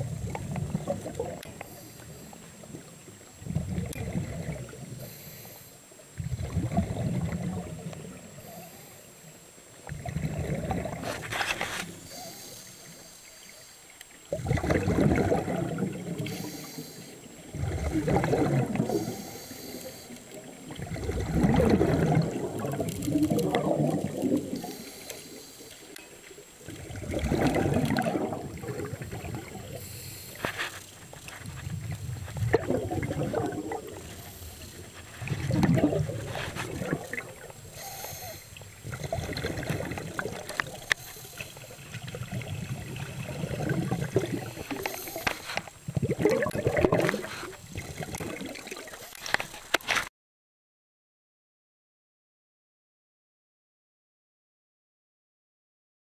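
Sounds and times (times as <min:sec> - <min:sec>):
underwater bubbles gurgling: 0:00.0 - 0:49.3.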